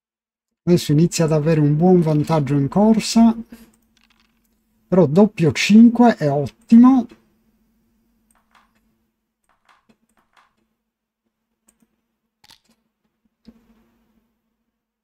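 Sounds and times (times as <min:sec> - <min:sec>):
faint steady hum: 0:00.7 - 0:15.0.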